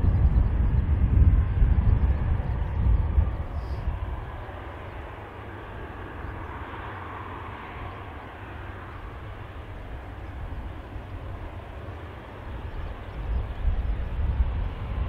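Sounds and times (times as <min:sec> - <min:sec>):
jet engines running: 0:00.0 - 0:15.0
wind rumble on microphone: 0:00.0 - 0:15.0.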